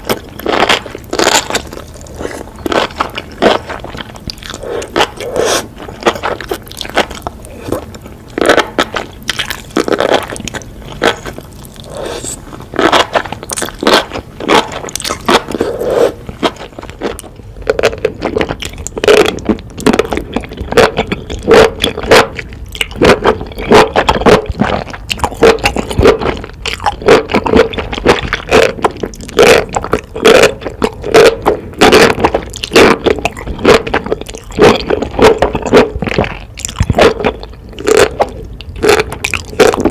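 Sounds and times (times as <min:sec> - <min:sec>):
crisp wet chewing: 0:00.0 - 0:39.9.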